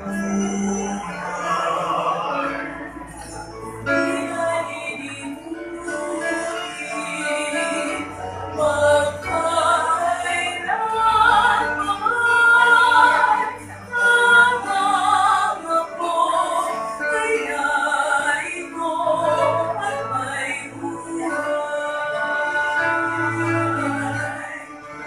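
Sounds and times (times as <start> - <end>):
vocal quartet singing in parts: 0.0 - 25.0.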